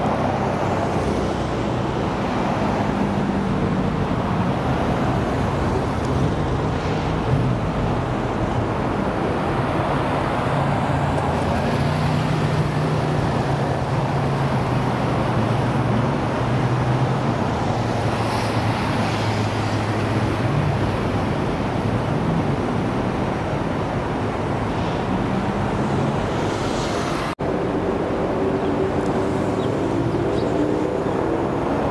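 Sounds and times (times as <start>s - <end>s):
traffic noise: 0.0s - 31.9s.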